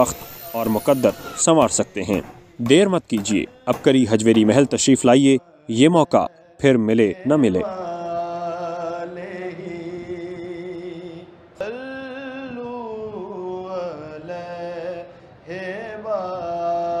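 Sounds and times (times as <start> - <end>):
person chanting devotionally: 0.0 - 17.0.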